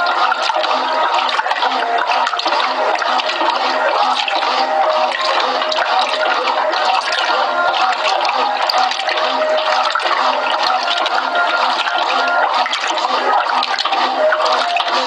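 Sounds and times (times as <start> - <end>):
water churning in washing machine: 0.0 - 15.0.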